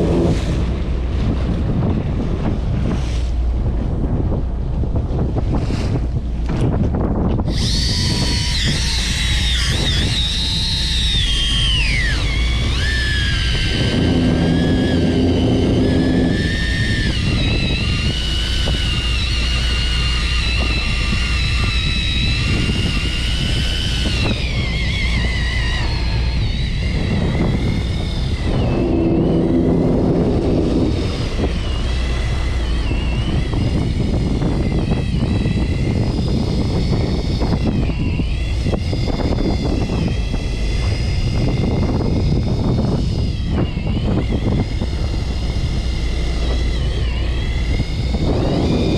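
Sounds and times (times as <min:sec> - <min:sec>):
high-pitched wavering whine: 0:00.0 - 0:05.0, 0:07.3 - 0:48.9
boat engine running: 0:00.0 - 0:48.9.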